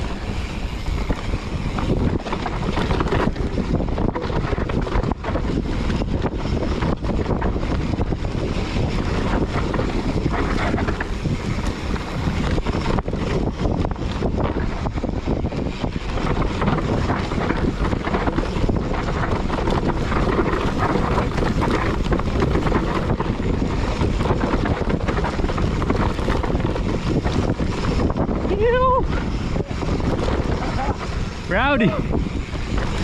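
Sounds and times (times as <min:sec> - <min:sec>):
bike rattling and knocking: 0:00.0 - 0:33.0
bike tyre noise: 0:00.0 - 0:33.0
wind buffeting microphone: 0:00.0 - 0:33.0.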